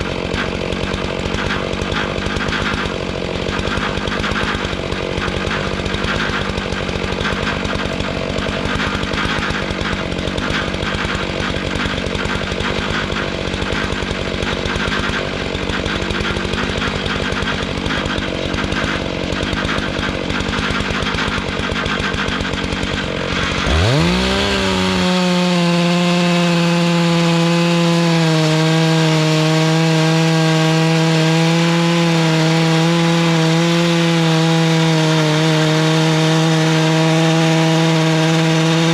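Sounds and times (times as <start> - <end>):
chainsaw cutting through log: 0.0 - 38.9
chainsaw running: 0.0 - 38.9.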